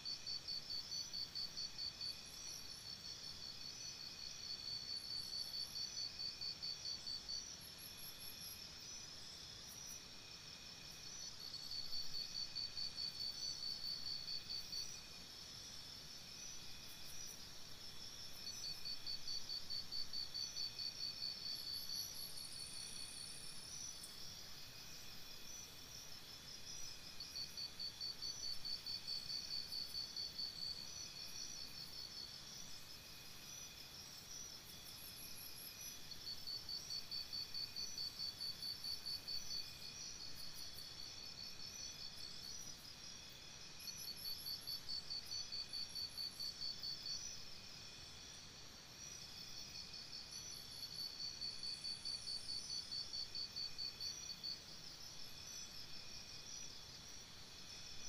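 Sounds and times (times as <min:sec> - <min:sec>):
crickets chirping in trills: 0:00.0 - 0:58.0.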